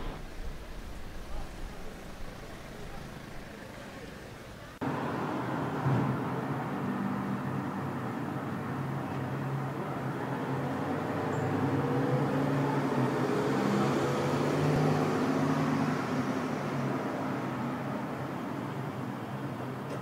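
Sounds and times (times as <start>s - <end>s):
vehicle passing on road: 0.0s - 19.5s.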